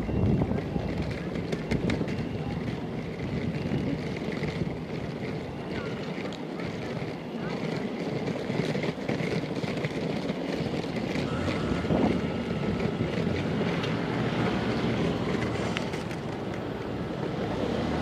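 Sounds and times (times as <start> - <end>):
city street traffic: 0.0 - 18.0
wind buffeting microphone: 0.0 - 18.0.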